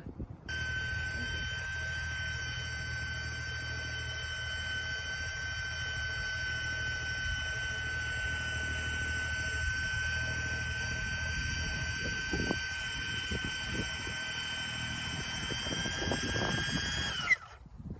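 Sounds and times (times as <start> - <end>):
electric snow blower whining: 0.5 - 17.7.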